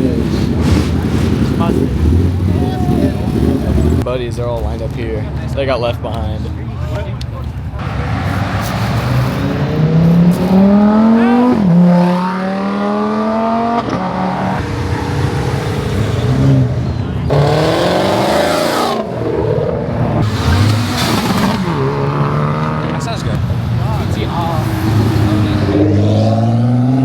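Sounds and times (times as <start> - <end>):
car engine accelerating hard: 0.0 - 4.1, 7.8 - 27.0.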